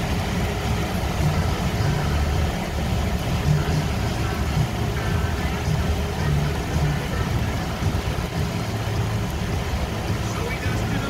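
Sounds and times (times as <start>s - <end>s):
boat engine droning: 0.0s - 11.0s
water wash: 0.0s - 11.0s.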